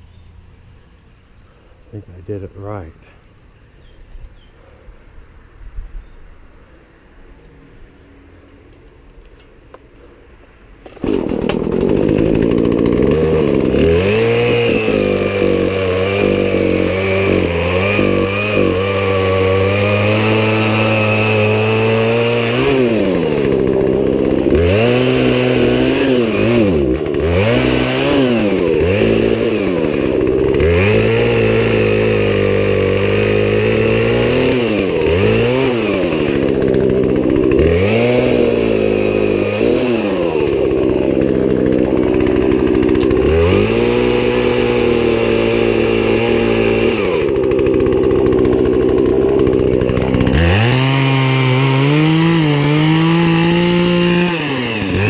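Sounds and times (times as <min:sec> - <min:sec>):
chainsaw running: 0:10.8 - 0:55.0.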